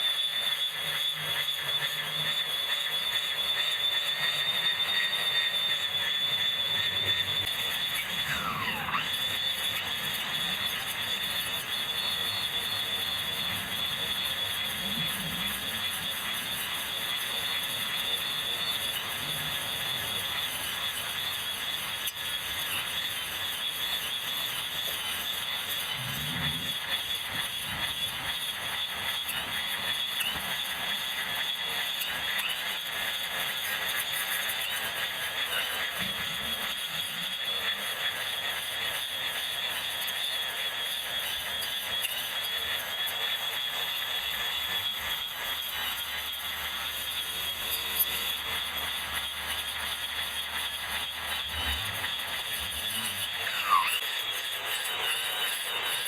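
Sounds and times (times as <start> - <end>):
electric grass trimmer whine: 6.6 - 31.7, 32.4 - 56.0.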